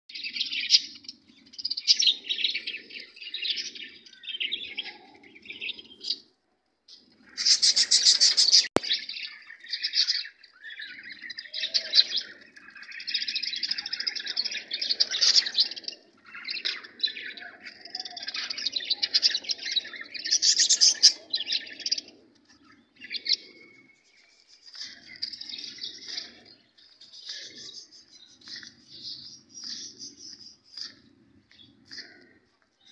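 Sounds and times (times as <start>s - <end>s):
budgerigars chirping and warbling: 0.2s - 6.3s, 7.0s - 23.9s, 24.6s - 32.3s.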